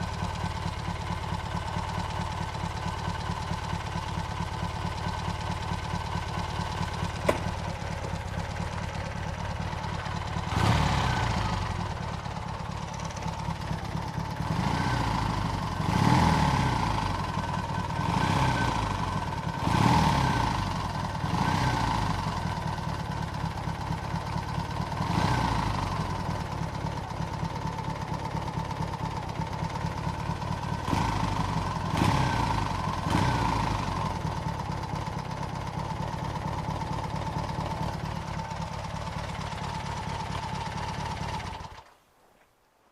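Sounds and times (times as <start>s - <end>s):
motorcycle engine revving: 0.0s - 41.8s.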